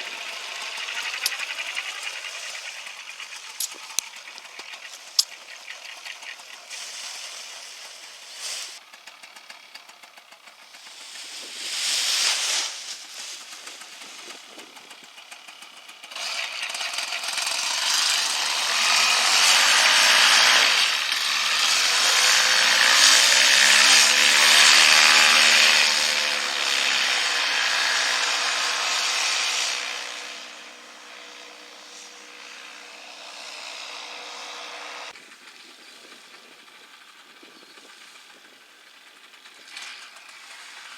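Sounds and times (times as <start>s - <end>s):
small engine rasping: 0.0s - 40.9s.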